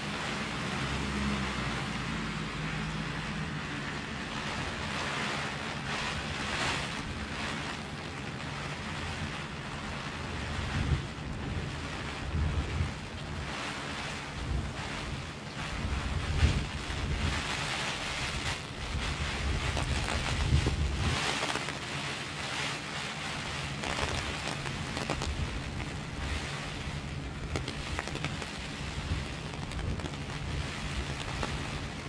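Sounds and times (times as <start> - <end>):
rain on plastic umbrella: 0.0 - 32.0
wind buffeting microphone: 4.0 - 32.0.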